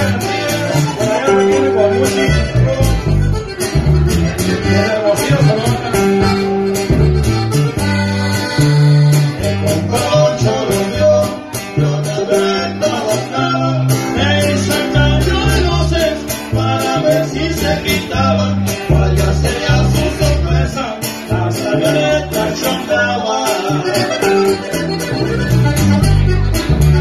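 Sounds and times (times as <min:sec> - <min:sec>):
deep bass line: 0:00.0 - 0:27.0
guitars: 0:00.0 - 0:27.0
live band playing: 0:00.0 - 0:27.0.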